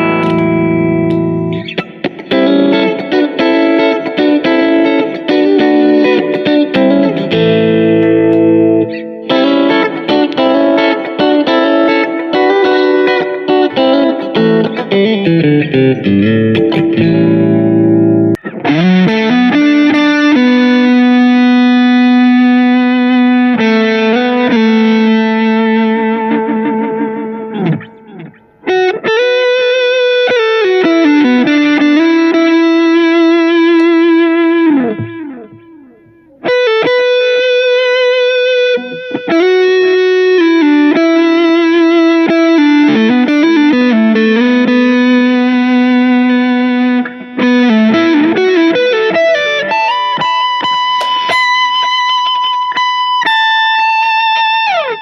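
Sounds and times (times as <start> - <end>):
guitar note diving in pitch: 0.0 - 53.3
distorted electric guitar lead: 0.0 - 55.0.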